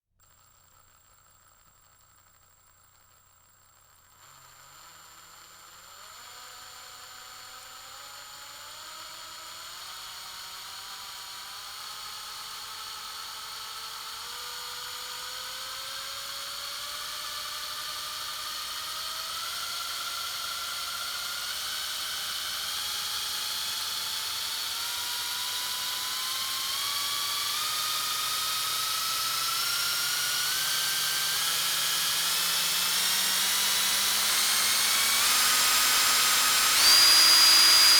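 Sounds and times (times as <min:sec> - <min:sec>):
electric drill motor whine: 0:00.3 - 0:37.9.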